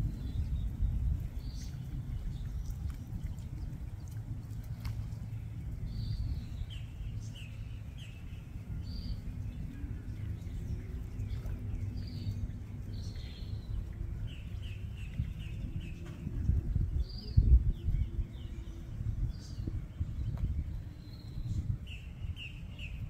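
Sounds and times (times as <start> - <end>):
birds chirping: 0.0 - 23.0
steady low rumble: 0.0 - 23.0.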